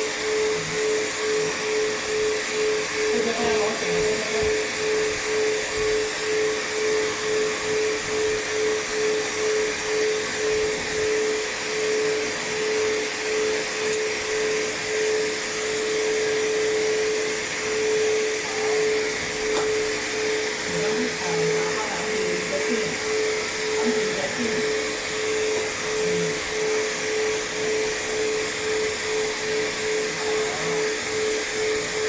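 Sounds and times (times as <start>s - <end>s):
blow dryer whine and air rush: 0.0s - 32.0s.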